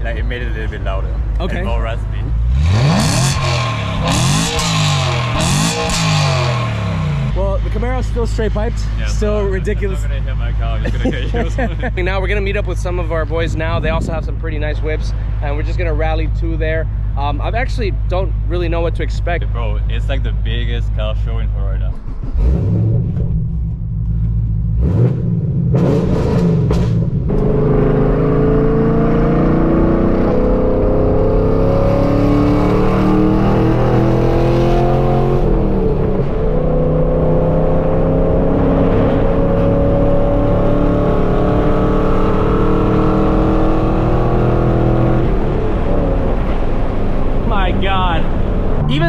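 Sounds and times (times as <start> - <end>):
loud car exhaust accelerating: 0.0 - 49.0.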